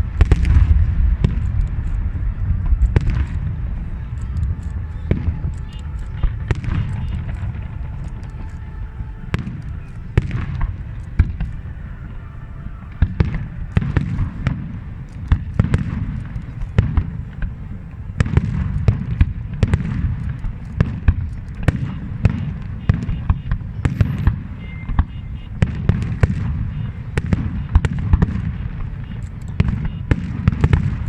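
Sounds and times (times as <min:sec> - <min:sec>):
continuous low rumble: 0:00.0 - 0:31.0
fireworks bangs and crackles: 0:00.0 - 0:31.0.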